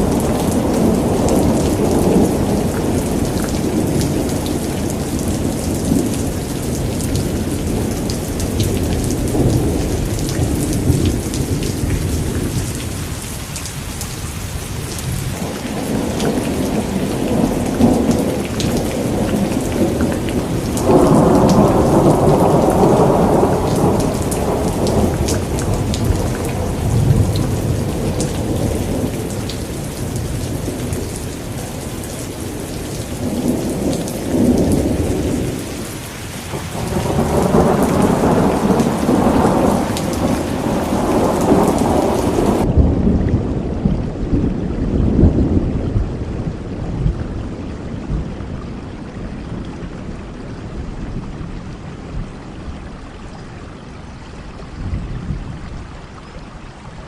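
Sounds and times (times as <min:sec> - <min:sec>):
thunder rumbling: 0:00.0 - 0:13.4, 0:14.2 - 0:48.4
heavy rain falling: 0:00.0 - 0:57.0.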